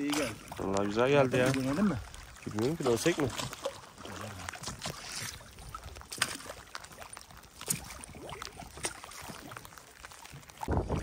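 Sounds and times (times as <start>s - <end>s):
oar strokes in water: 0.0s - 11.0s
water splashes and drips: 0.0s - 11.0s.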